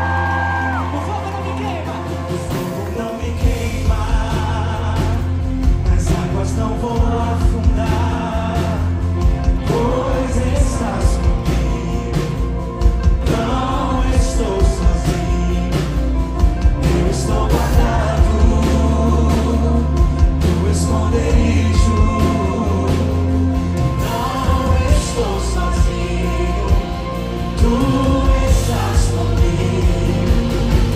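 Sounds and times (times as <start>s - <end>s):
bass guitar: 0.0s - 30.9s
drums: 0.0s - 30.9s
electric guitar: 0.0s - 30.9s
male singers: 0.0s - 30.9s.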